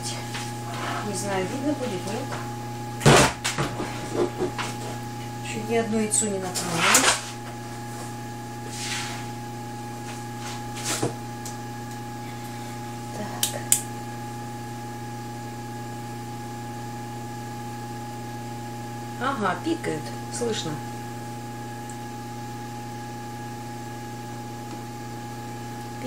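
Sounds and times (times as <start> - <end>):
incubator electrical hum: 0.0 - 26.0.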